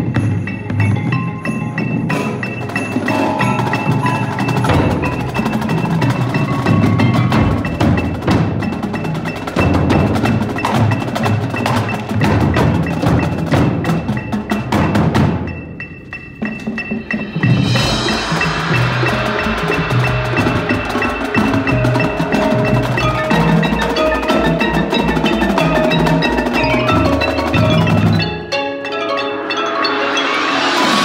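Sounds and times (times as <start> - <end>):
marimbas and mallet percussion: 0.0 - 31.0.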